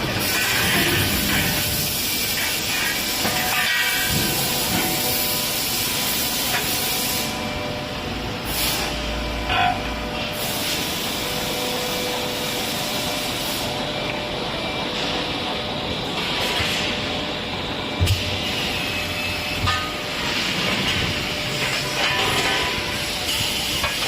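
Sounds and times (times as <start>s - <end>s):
machinery hissing and running: 0.0s - 24.0s.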